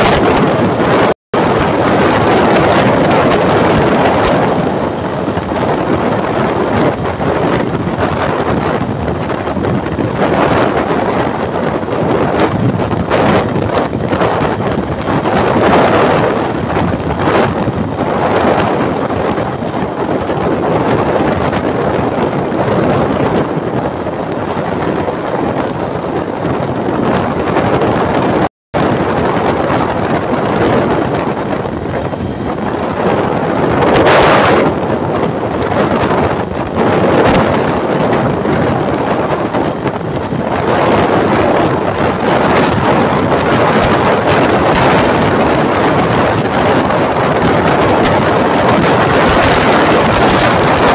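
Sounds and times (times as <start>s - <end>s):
motorcycle road and engine noise: 0.0s - 50.9s
wind buffeting microphone: 0.0s - 50.9s.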